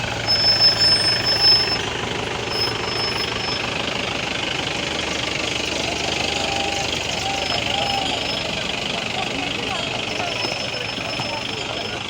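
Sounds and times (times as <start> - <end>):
engine running with knocking: 0.0 - 12.0.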